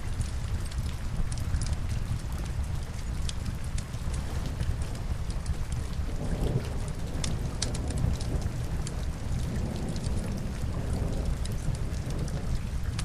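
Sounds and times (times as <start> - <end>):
logs crackling in fireplace: 0.0 - 13.0
steady rain: 0.0 - 13.0.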